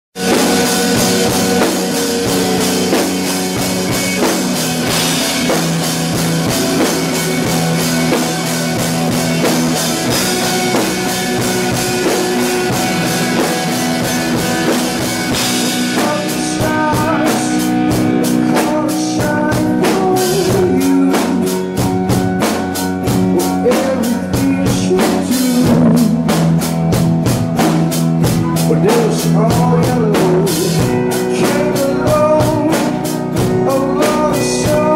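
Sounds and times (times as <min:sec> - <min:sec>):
rock band playing loudly: 0:00.2 - 0:34.9.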